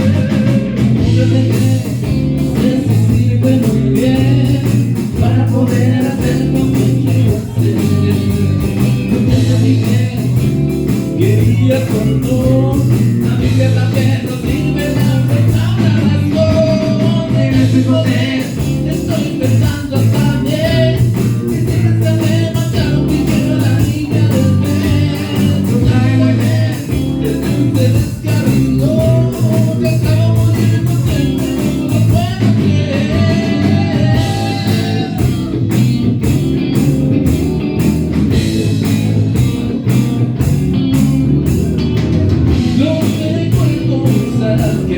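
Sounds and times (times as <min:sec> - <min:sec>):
person singing: 0:00.0 - 0:35.7, 0:41.7 - 0:44.9
blues-rock band playing: 0:00.0 - 0:44.9.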